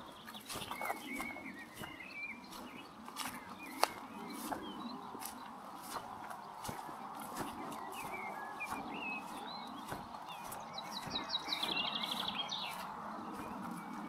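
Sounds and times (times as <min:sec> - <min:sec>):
footsteps on gravel: 0:00.0 - 0:14.0
songbirds chirping: 0:00.0 - 0:14.0.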